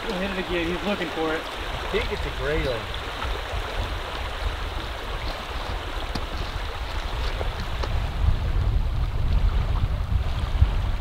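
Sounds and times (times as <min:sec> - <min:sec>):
river water rushing: 0:00.0 - 0:11.0
wind on microphone: 0:00.0 - 0:11.0.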